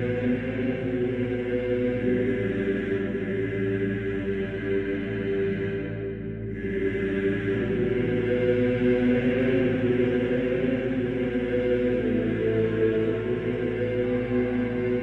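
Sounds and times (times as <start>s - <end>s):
choir chanting in held notes: 0.0s - 15.0s.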